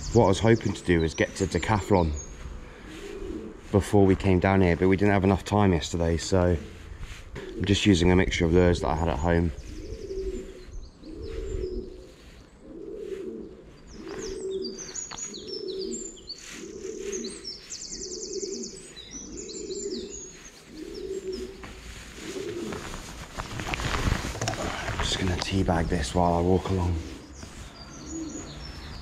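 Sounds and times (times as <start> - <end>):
pigeon cooing: 0.0 - 5.4, 6.5 - 25.5, 26.2 - 29.0
songbirds chirping and trilling: 0.0 - 29.0.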